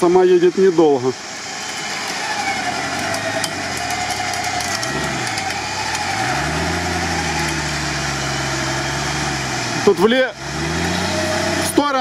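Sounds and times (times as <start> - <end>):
engine revving in mud: 1.2 - 12.0.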